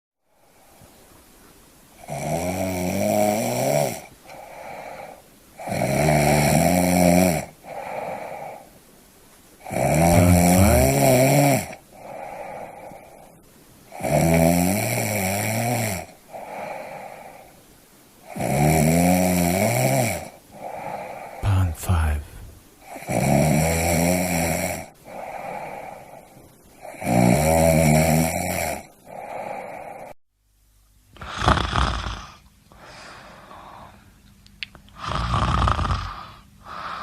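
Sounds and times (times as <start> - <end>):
person snoring: 2.0 - 8.7, 9.6 - 13.3, 13.9 - 17.5, 18.3 - 30.2, 31.2 - 34.0, 35.0 - 37.0.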